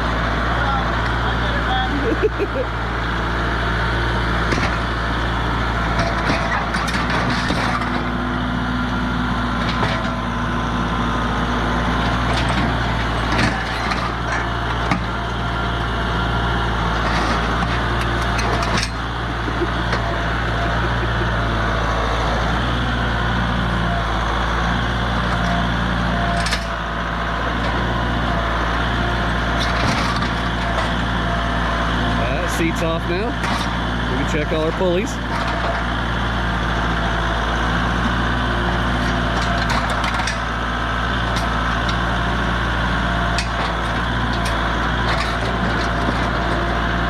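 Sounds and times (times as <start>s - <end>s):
low mechanical drone: 0.0s - 47.0s.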